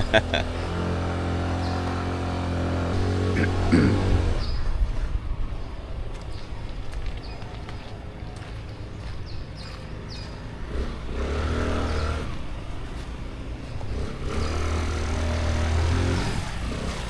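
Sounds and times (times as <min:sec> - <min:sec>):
small scooter engines running: 0:00.0 - 0:17.0.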